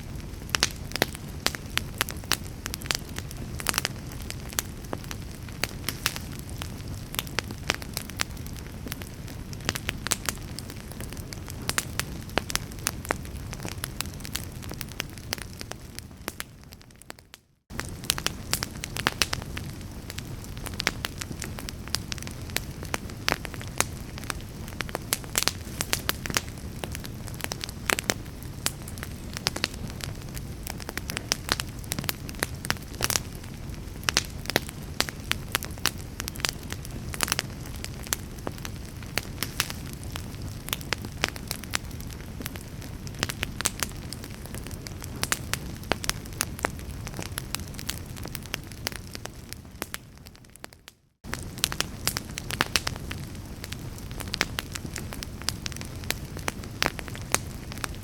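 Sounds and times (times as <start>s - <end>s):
burning wood crackling and popping: 0.0s - 58.0s
low rumble of flames: 0.0s - 58.0s.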